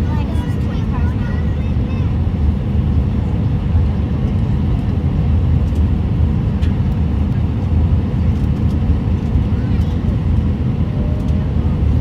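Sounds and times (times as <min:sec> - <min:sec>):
airplane engines rumbling in cabin: 0:00.0 - 0:12.0.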